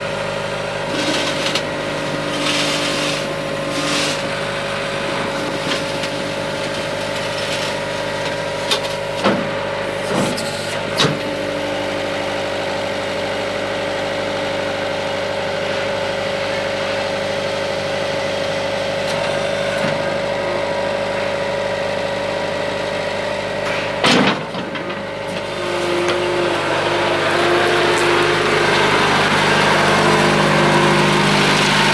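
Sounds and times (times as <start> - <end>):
loader engine idling: 0.0 - 31.9.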